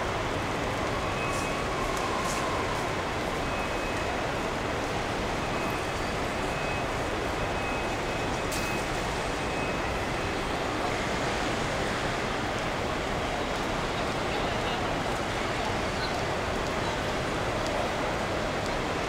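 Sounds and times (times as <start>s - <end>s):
airport hall background noise: 0.0s - 19.0s.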